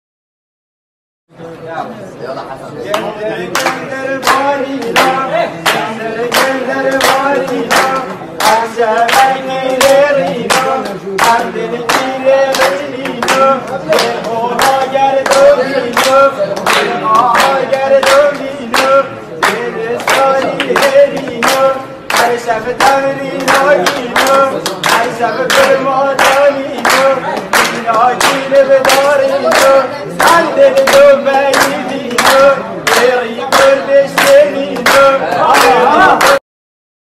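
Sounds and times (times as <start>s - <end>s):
group of voices singing: 2.8s - 36.4s
rhythmic hand clapping: 2.8s - 36.4s.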